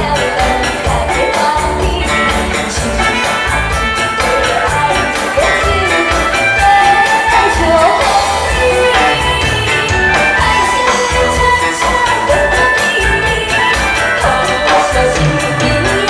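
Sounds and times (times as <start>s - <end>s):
amplified backing music: 0.0s - 16.0s
person singing: 0.0s - 16.0s.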